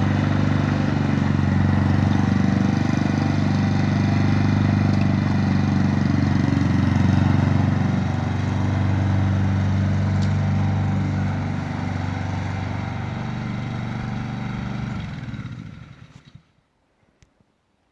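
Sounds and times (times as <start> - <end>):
lawn mower engine running: 0.0 - 16.5.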